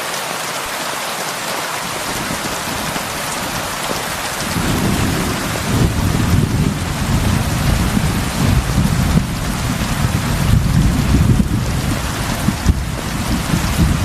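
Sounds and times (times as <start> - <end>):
heavy rain on a roof: 0.0 - 14.0
rolling thunder: 2.0 - 14.0.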